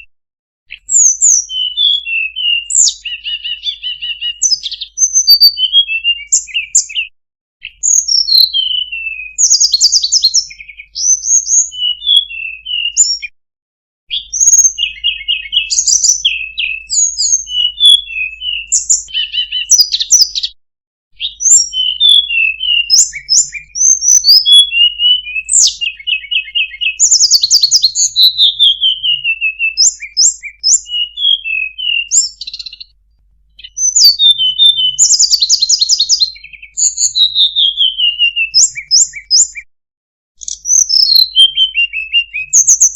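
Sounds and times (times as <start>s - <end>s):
robin singing varied whistles: 0.7s - 13.3s, 14.1s - 33.0s, 33.6s - 39.7s, 40.4s - 42.9s.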